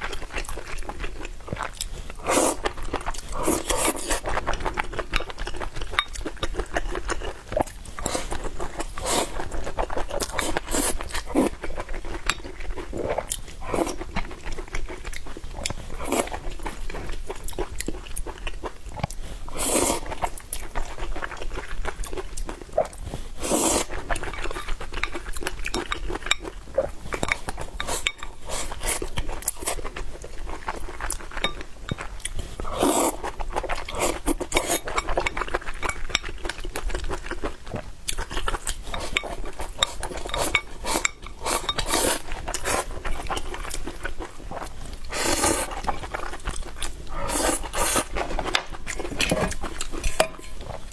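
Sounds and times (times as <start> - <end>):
chewing and crunching food: 0.0 - 50.9.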